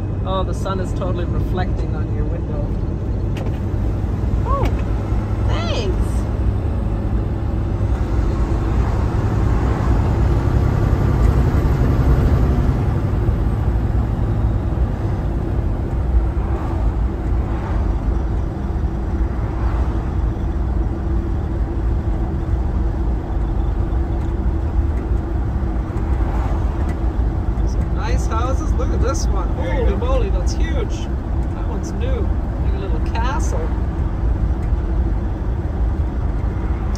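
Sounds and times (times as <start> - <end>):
road noise: 0.0 - 36.9
truck diesel engine drone: 0.0 - 36.9.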